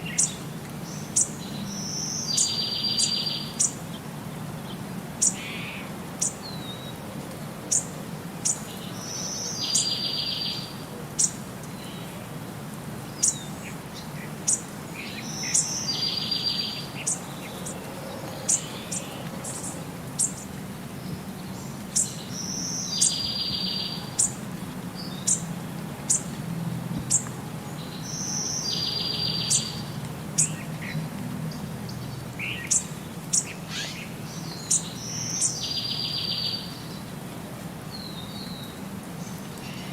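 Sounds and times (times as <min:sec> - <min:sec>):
birds chirping: 0:00.0 - 0:07.0, 0:07.7 - 0:12.2, 0:13.0 - 0:26.4, 0:27.0 - 0:37.1.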